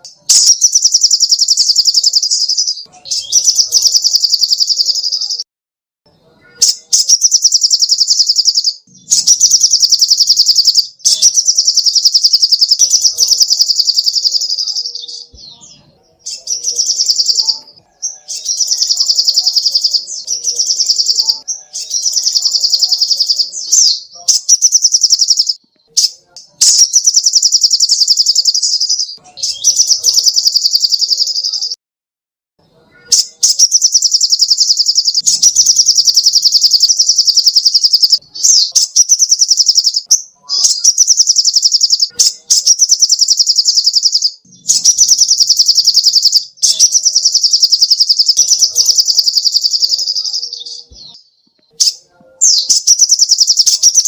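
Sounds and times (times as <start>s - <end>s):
bird singing fast trills: 0.0s - 5.4s, 6.5s - 31.8s, 33.0s - 54.0s.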